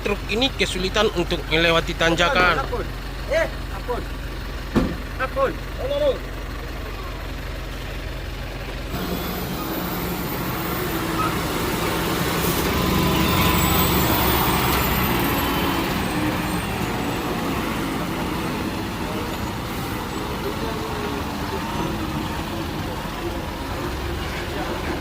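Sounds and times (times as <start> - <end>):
truck diesel engine labouring: 0.0 - 25.0.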